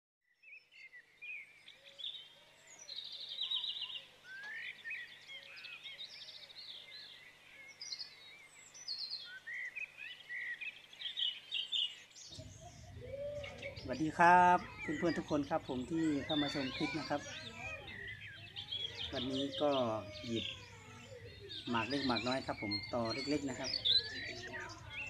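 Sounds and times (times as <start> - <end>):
small birds chirping and singing: 0.3 - 25.0.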